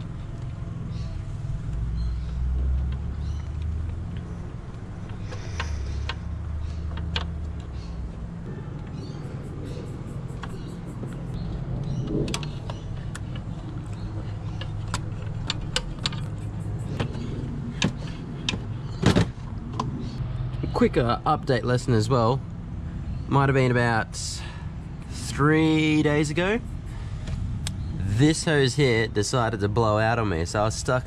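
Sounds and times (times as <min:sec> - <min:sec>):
steady low hum: 0:00.0 - 0:29.6.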